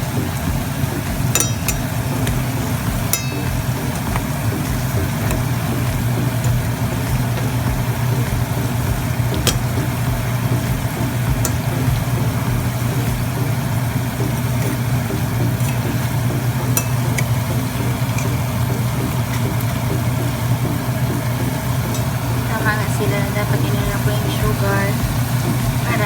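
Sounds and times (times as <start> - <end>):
banana slices sizzling in oil: 0.0 - 26.0
low hum: 0.0 - 26.0.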